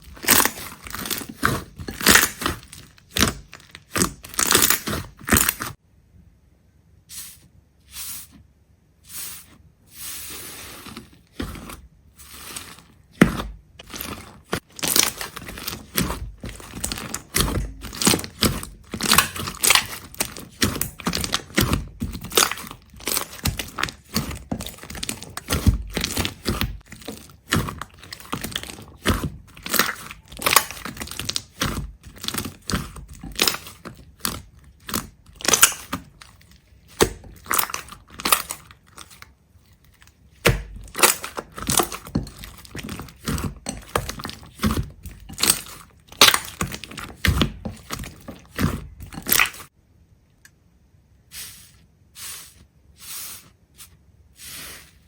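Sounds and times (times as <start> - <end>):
crunching and crackling snaps: 0.0 - 5.8, 10.8 - 50.6.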